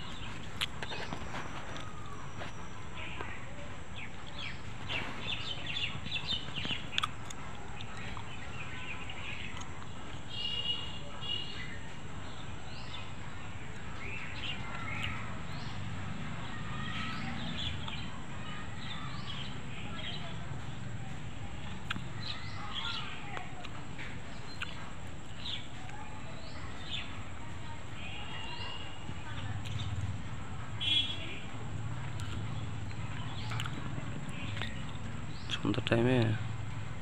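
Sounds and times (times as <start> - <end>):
birds chirping and calling: 0.0 - 36.8.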